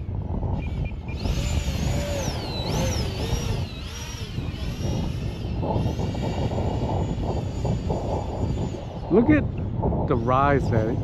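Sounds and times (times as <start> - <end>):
wind buffeting microphone: 0.0 - 11.0
model jet whining: 0.2 - 9.6.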